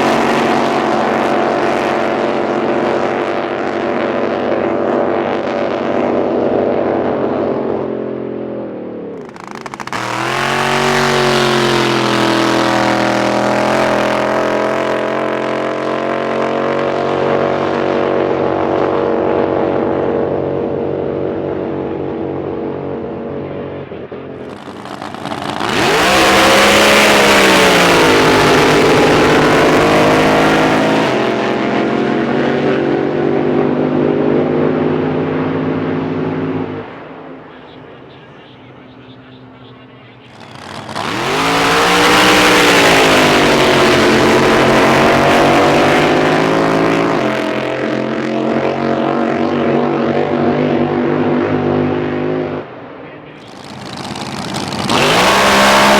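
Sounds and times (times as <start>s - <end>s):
racing boat engines at full throttle: 0.0s - 55.9s.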